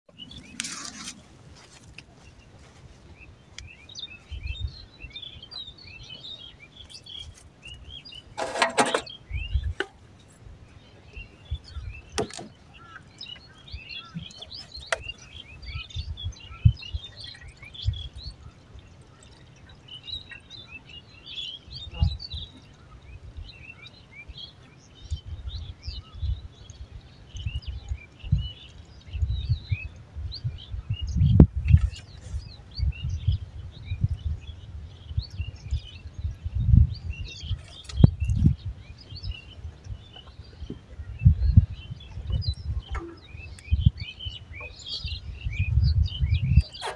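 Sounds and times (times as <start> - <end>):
small birds chirping: 0.1 - 46.9.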